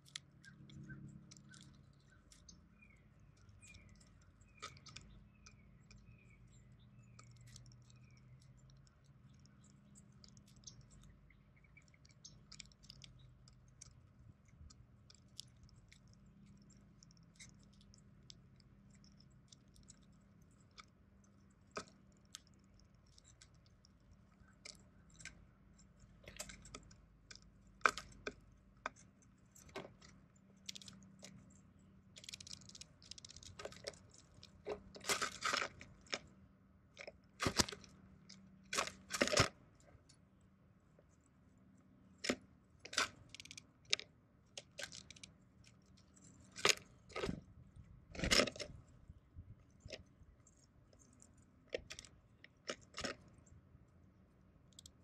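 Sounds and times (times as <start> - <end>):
birds pecking and cracking seed: 0.0 - 55.0.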